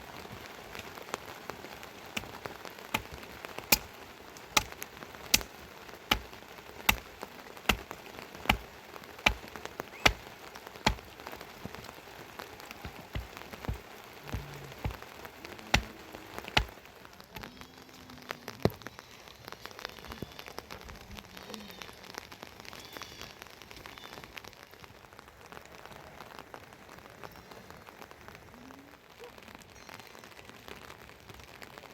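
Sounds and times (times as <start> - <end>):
raindrops ticking on a surface: 0.0 - 31.9
rainfall hiss: 0.0 - 31.9.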